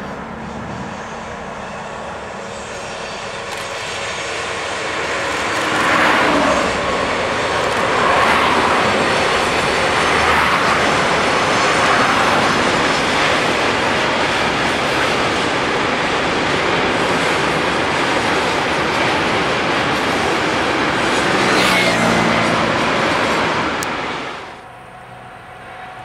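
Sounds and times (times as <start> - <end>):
freight train wheels on rail: 0.0 - 26.0.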